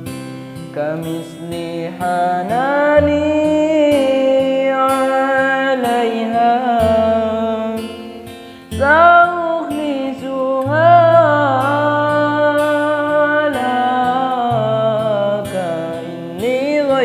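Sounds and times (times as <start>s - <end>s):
acoustic guitar: 0.0s - 17.0s
man singing pop ballad: 0.6s - 17.0s.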